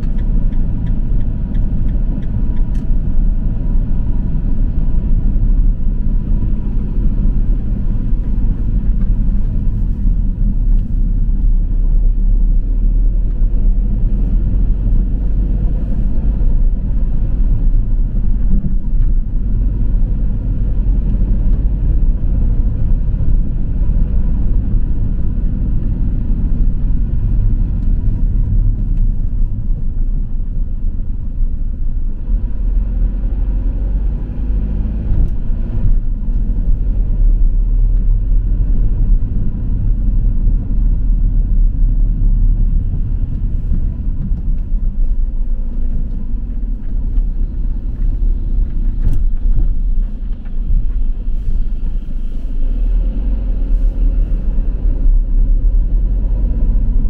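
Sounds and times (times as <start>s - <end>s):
road noise: 0.0s - 57.0s
vehicle engine rumble: 0.0s - 57.0s.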